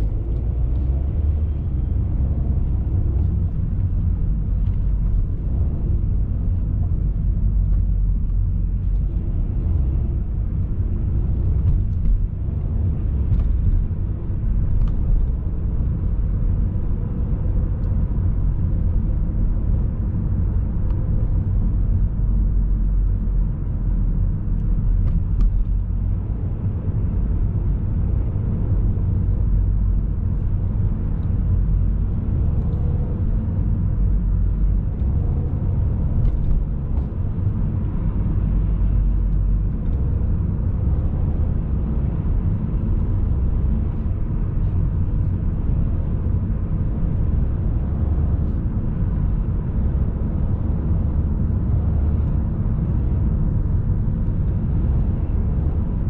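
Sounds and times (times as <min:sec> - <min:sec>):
car engine rumble: 0:00.0 - 0:56.0
tyre road noise: 0:00.0 - 0:56.0.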